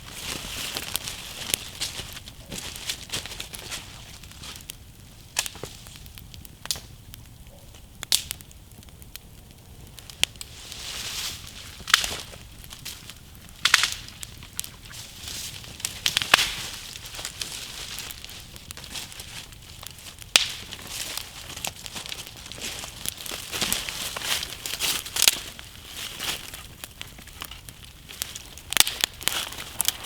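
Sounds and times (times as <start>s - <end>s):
campfire crackling: 0.0s - 30.0s
fire pops: 0.0s - 30.0s.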